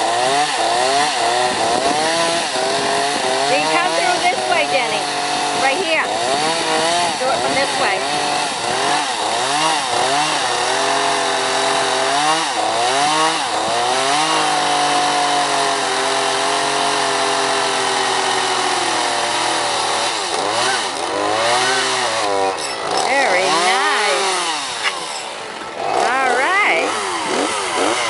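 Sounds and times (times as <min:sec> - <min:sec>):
chainsaw revving: 0:00.0 - 0:28.0.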